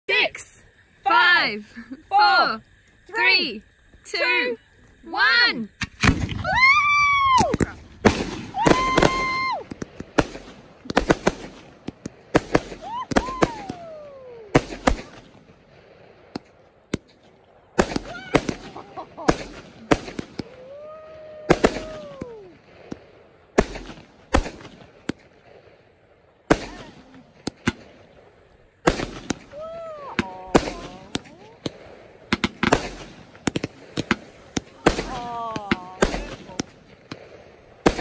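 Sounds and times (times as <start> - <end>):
fireworks crackling: 0.1 - 38.0
fireworks bangs: 5.8 - 38.0.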